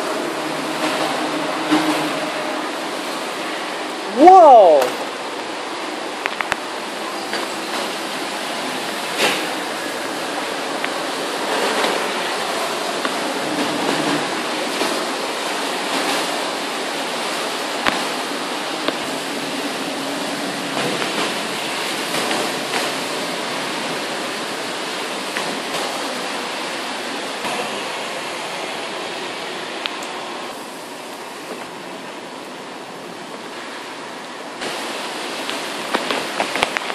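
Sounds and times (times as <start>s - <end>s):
heavy rain pouring: 0.0s - 36.9s.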